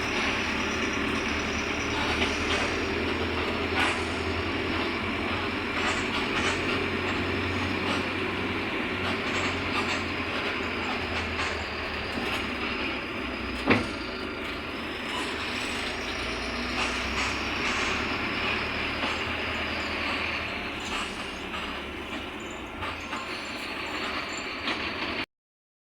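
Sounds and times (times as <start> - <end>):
bus body rattling: 0.0 - 25.2
diesel bus engine drone: 0.0 - 25.3.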